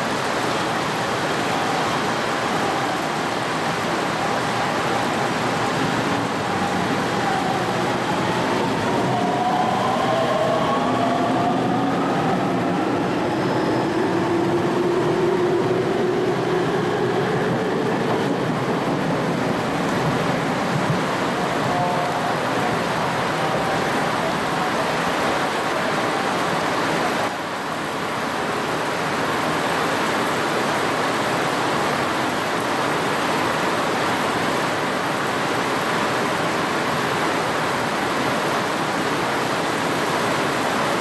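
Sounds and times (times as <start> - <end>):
heavy rain pouring: 0.0 - 41.0.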